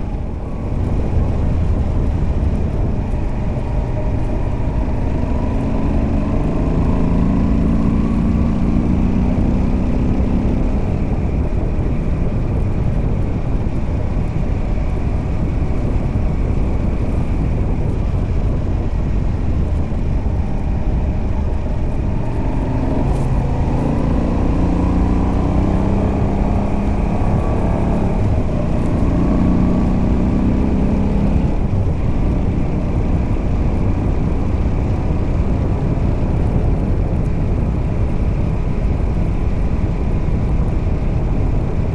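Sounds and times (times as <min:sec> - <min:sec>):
motorcycle engine accelerating: 0:00.0 - 0:41.9
road noise: 0:00.0 - 0:41.9
wind noise: 0:00.0 - 0:41.9.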